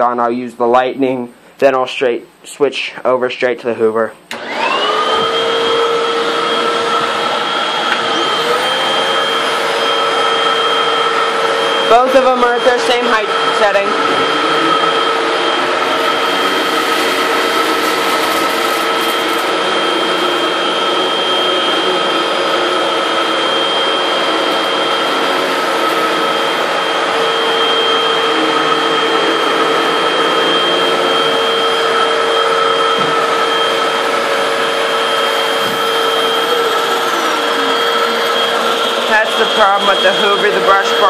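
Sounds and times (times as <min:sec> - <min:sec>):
vacuum cleaner whine: 0:04.3 - 0:41.0.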